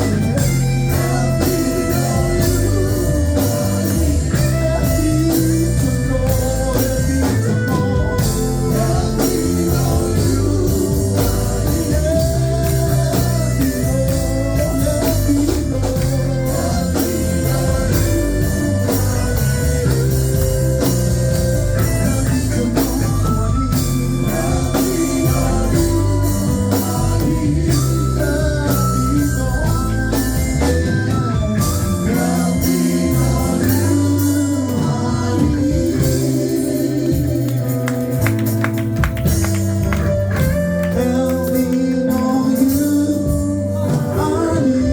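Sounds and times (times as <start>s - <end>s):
singing: 0.0s - 21.0s, 21.6s - 38.0s, 40.9s - 44.9s
drum kit beat: 0.0s - 44.9s
guitars: 0.0s - 44.9s.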